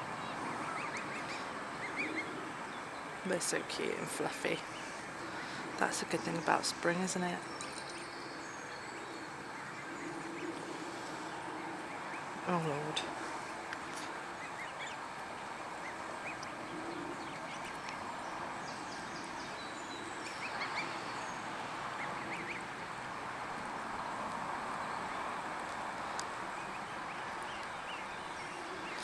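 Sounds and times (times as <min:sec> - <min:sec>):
goslings peeping: 0:00.0 - 0:07.8, 0:08.7 - 0:29.0
steady background noise: 0:00.0 - 0:29.0.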